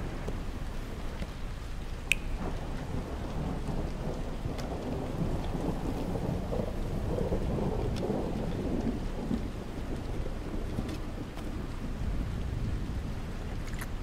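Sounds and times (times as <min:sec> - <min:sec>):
steady rain: 0:00.0 - 0:14.0
thunder rumbling: 0:01.7 - 0:14.0.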